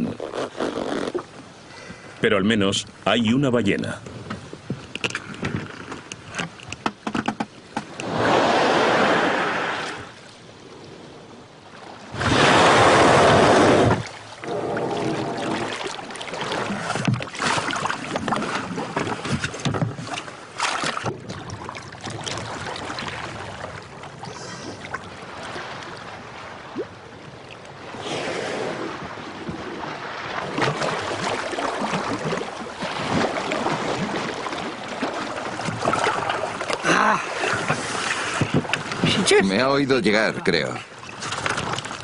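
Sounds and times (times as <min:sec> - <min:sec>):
sea water splashing: 0:00.0 - 0:42.0.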